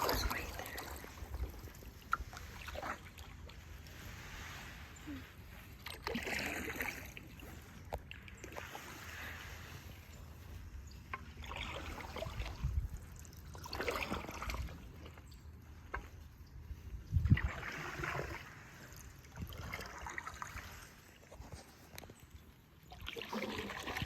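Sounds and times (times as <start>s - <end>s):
canoe paddles stroking water: 0.0s - 24.0s
water trickling off paddles: 0.0s - 24.0s.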